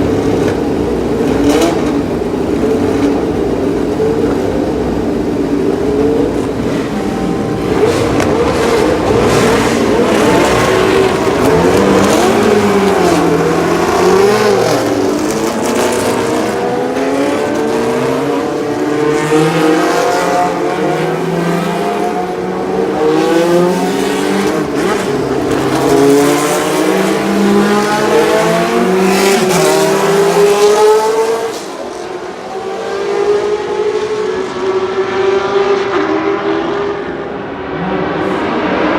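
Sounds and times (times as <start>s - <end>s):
racing car engines revving: 0.0s - 38.9s.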